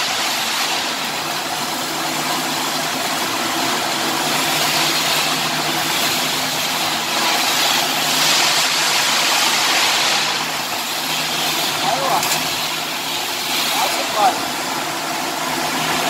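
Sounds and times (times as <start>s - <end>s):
welding arc crackling: 0.0s - 16.0s.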